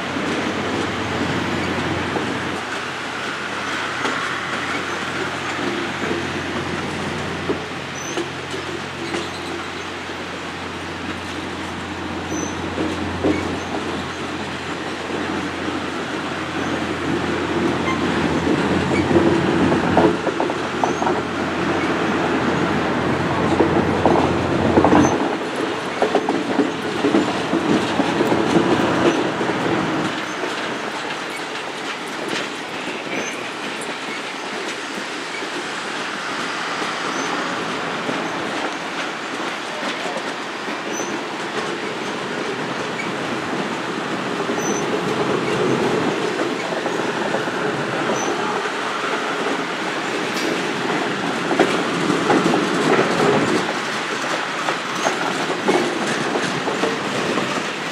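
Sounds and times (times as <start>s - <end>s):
train wheels clicking over rail joints: 0.0s - 57.9s.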